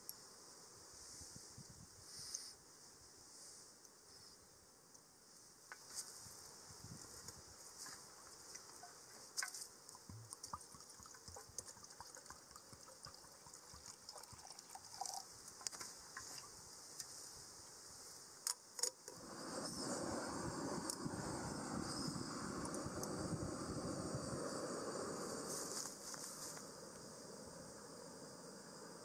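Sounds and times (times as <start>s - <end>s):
insect chorus: 0.0s - 29.0s.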